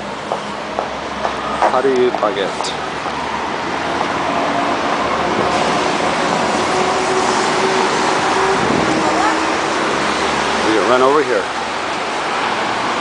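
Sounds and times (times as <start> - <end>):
city traffic: 0.0 - 13.0
vehicle engine humming: 0.0 - 13.0.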